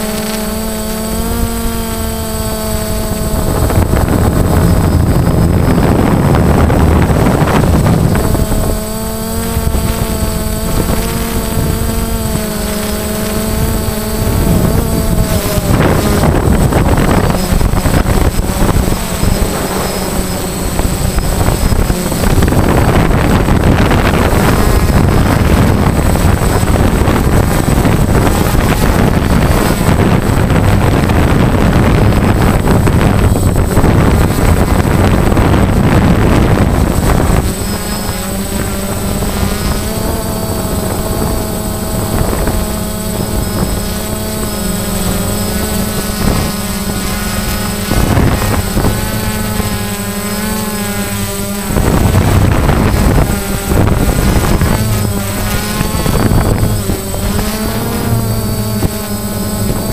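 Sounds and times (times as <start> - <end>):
drone propellers humming: 0.0 - 59.9
wind rushing: 0.7 - 59.9.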